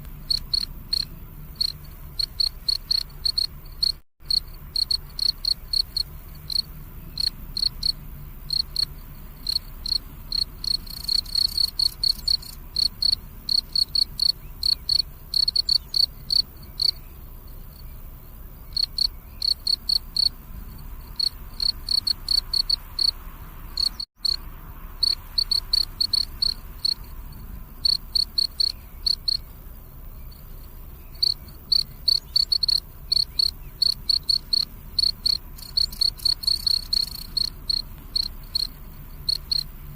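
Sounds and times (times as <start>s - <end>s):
cricket chirping: 0.2s - 39.9s.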